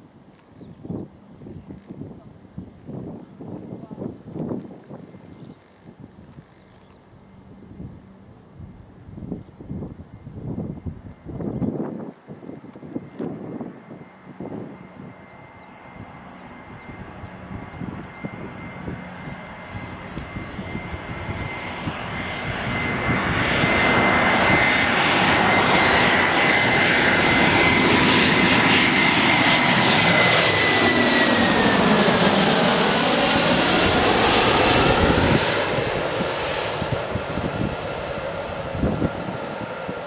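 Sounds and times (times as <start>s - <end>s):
jet engines flying overhead: 0.0s - 40.0s.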